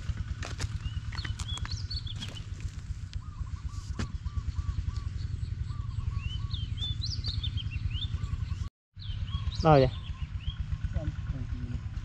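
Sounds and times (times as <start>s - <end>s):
low rumble: 0.0s - 12.0s
birds chirping and whistling: 0.6s - 11.3s.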